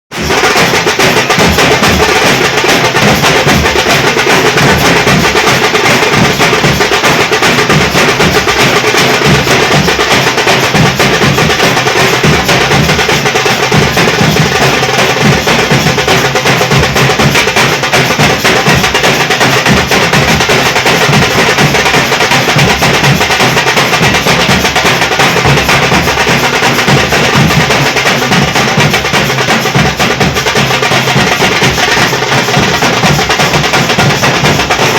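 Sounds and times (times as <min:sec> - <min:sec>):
fast dhol drumming: 0:00.1 - 0:34.9.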